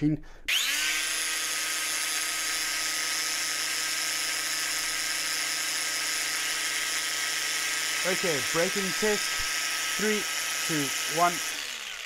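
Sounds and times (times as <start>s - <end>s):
angle grinder whining: 0.5s - 12.0s.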